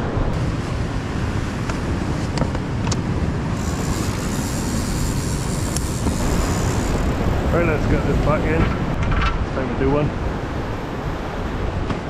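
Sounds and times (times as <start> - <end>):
pounding surf: 0.0 - 12.0
wind rumbling on microphone: 0.0 - 12.0.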